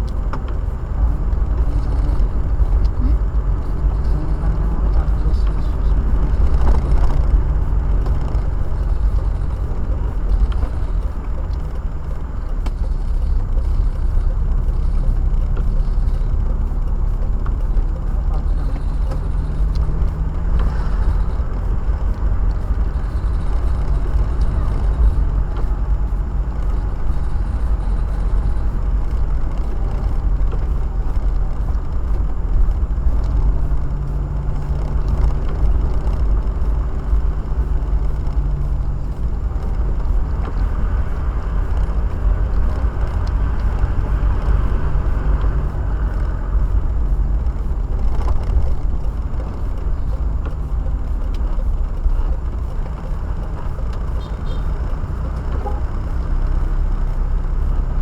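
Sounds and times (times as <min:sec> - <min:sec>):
car engine and road rumble: 0:00.0 - 0:58.0
engine hum: 0:00.0 - 0:58.0
rain and wet tyres hissing: 0:00.0 - 0:58.0.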